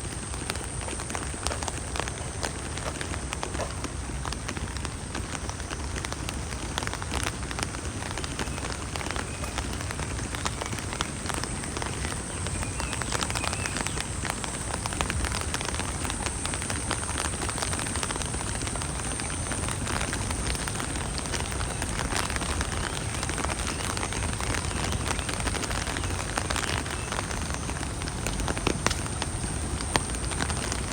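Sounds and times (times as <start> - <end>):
raindrops ticking: 0.0 - 30.9
steady rain hiss: 0.0 - 30.9.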